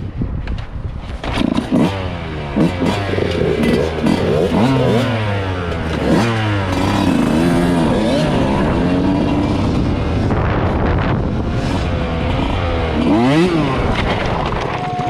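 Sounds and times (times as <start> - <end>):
off-road engines revving: 1.2 - 15.0
low engine drone: 1.8 - 15.0.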